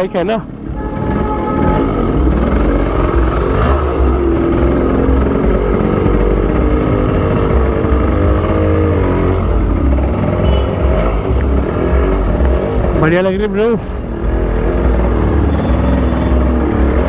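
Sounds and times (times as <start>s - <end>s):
two-stroke motorcycle engine revving: 0.6s - 17.0s.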